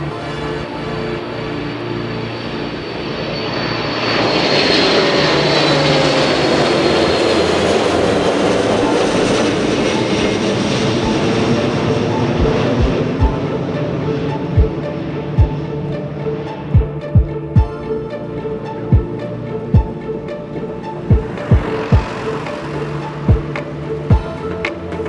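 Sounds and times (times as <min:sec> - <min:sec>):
jet aircraft passing: 0:00.0 - 0:25.0.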